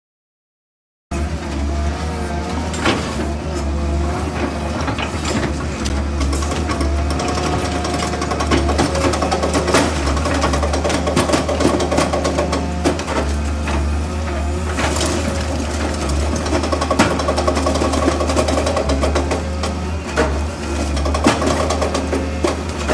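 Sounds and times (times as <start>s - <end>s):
excavator engine running: 1.2s - 22.9s.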